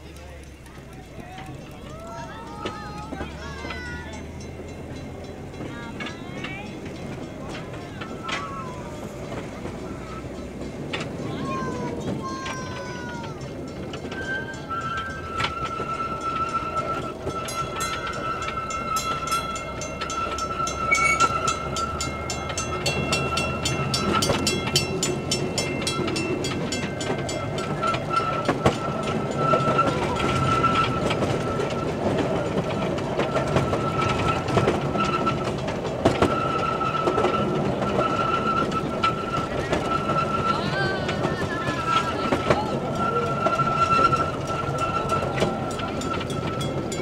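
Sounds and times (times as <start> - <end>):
train rumble: 0.0 - 47.0
wheels clicking on track: 0.0 - 47.0.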